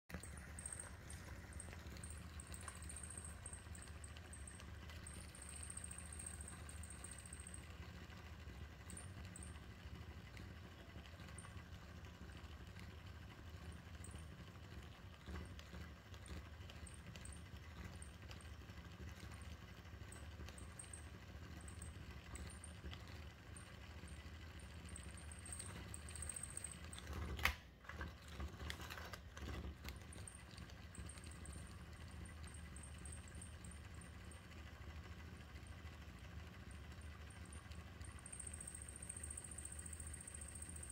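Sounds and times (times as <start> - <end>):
small toy motor running: 0.1 - 40.9.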